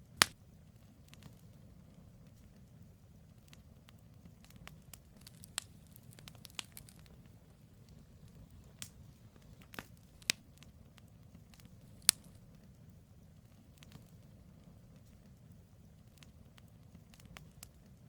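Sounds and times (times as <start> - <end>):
campfire crackling and popping: 0.0 - 18.0
low steady rumble: 0.0 - 18.0.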